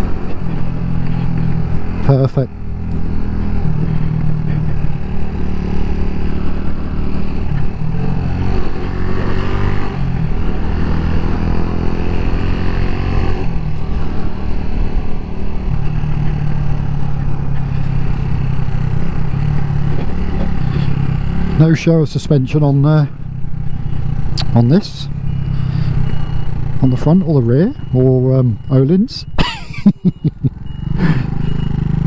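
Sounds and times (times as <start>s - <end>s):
motorcycle engine running: 0.0s - 28.6s, 30.4s - 32.0s.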